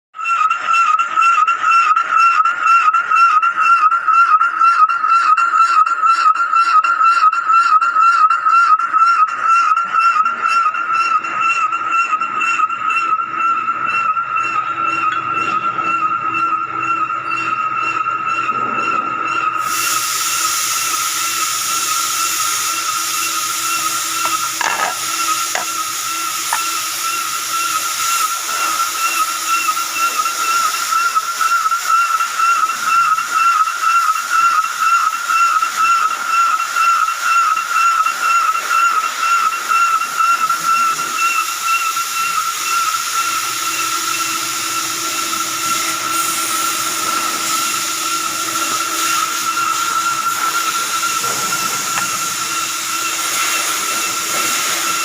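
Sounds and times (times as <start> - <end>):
high-pitched machine whine: 0.2 - 55.0.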